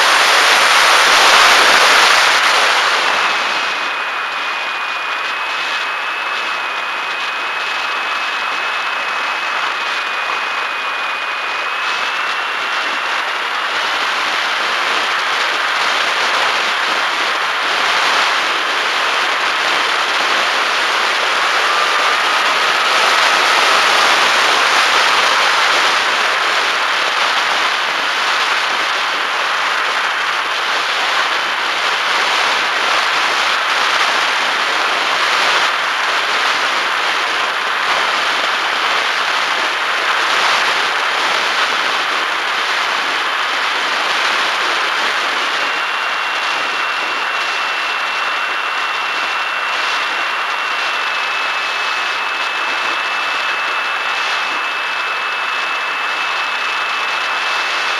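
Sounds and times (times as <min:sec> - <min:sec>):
electric motor and propeller whine: 0:00.0 - 0:57.9.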